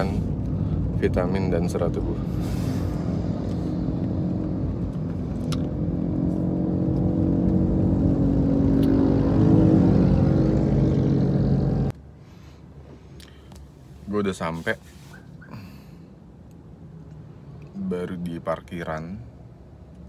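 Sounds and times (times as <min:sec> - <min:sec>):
car engine and tyre hum: 0:00.0 - 0:20.0.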